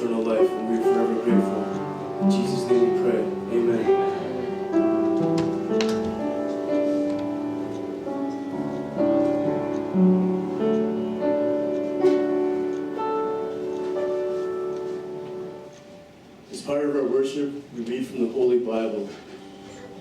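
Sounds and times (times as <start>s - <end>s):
soft piano chords: 0.0s - 20.0s.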